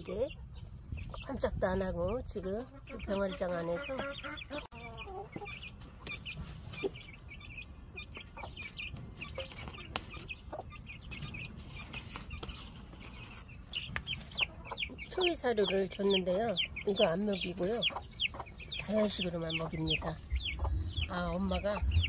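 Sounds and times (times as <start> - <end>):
chicks peeping: 0.0 - 22.0
hen clucking: 0.0 - 22.0.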